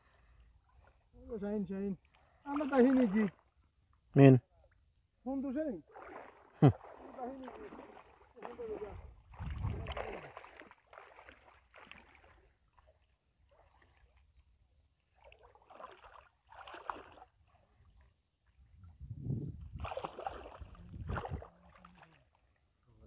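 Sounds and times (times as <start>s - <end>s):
water sloshing and splashing: 0.0s - 3.6s, 5.6s - 22.7s.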